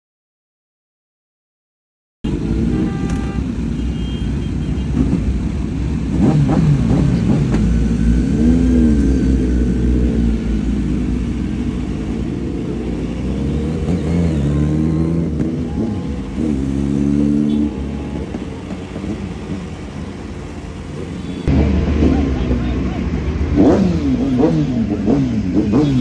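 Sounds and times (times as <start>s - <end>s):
motorcycle engines revving: 2.3s - 26.0s.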